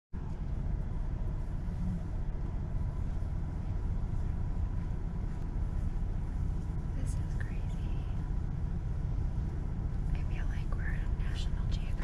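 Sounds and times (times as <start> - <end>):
car driving rumble: 0.2 - 12.0.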